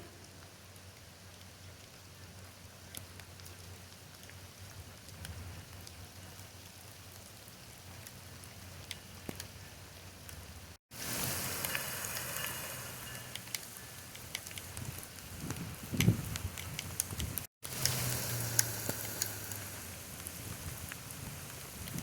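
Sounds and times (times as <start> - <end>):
steady rain falling: 0.0 - 22.0
raindrops tapping: 0.2 - 22.0.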